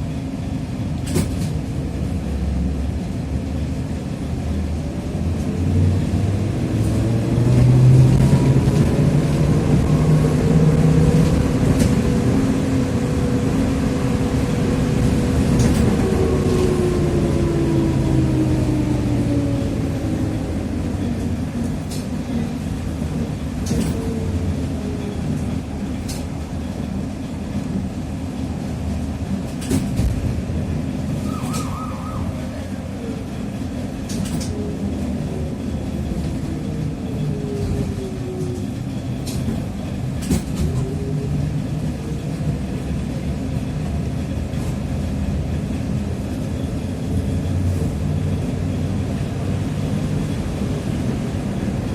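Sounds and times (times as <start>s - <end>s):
trolleybus motor whine: 0.0s - 51.9s.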